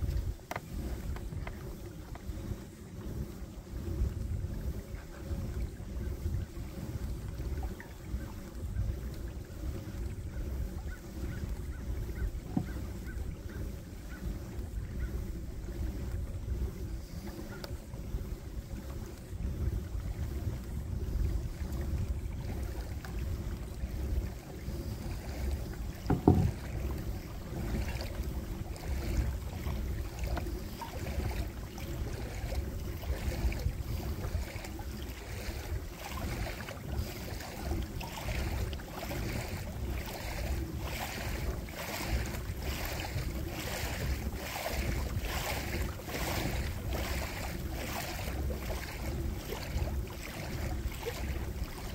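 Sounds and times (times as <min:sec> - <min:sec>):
paddle strokes splashing: 0:00.0 - 0:51.9
wind rumble on microphone: 0:00.0 - 0:51.9.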